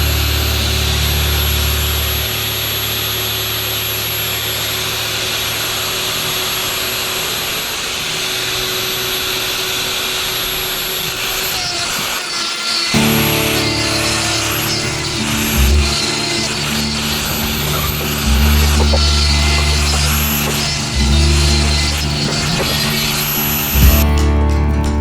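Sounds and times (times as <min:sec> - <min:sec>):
power tool whirring: 0:03.0 - 0:24.0.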